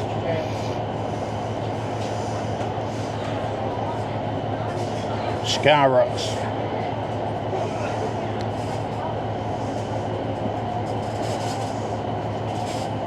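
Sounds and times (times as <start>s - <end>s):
diesel train engine hum: 0.0s - 13.0s
train rumble: 0.0s - 13.0s.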